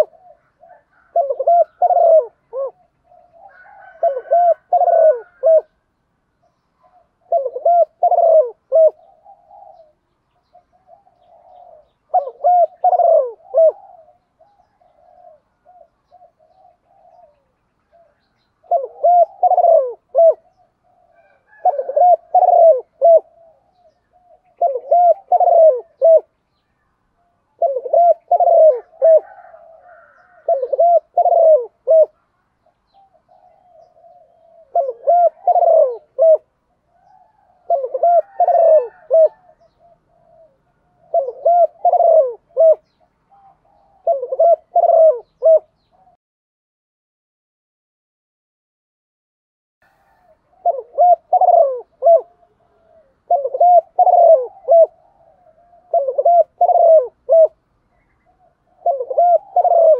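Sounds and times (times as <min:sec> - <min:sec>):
dove cooing: 0:00.0 - 0:05.8, 0:06.4 - 0:26.4, 0:27.2 - 0:46.2, 0:49.8 - 0:59.9.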